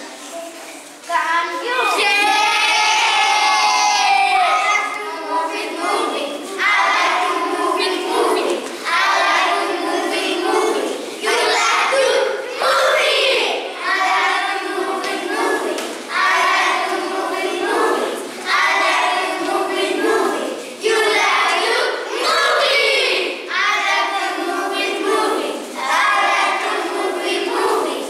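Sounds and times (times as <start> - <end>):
children singing in unison: 1.4 - 28.0.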